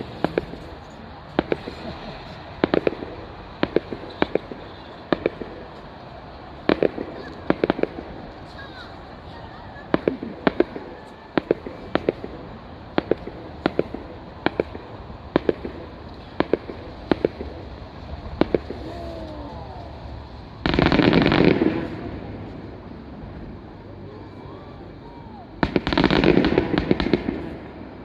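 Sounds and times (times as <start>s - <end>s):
fireworks bangs: 0.0s - 23.8s, 25.6s - 28.0s
fireworks crackling: 0.0s - 28.0s.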